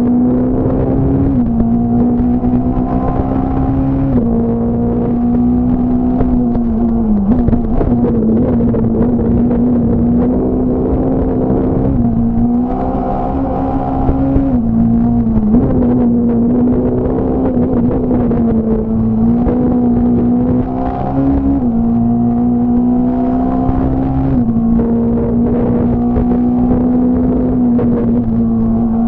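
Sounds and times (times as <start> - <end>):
rally car engine at high revs: 0.0 - 29.0.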